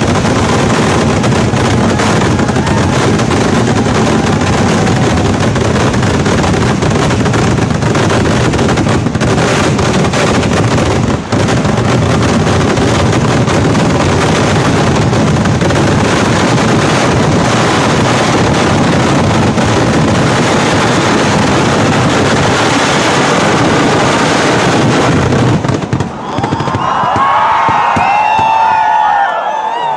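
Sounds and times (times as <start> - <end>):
firework blasts: 0.0 - 29.9.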